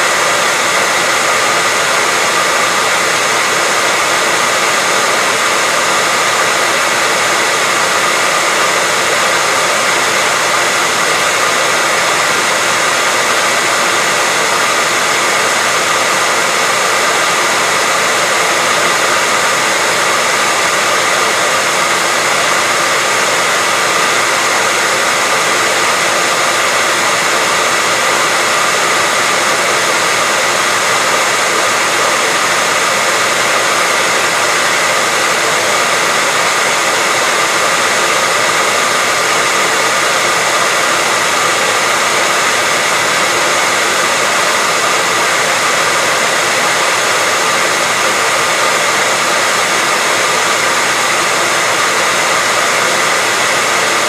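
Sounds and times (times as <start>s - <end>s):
hairdryer running: 0.0s - 54.0s.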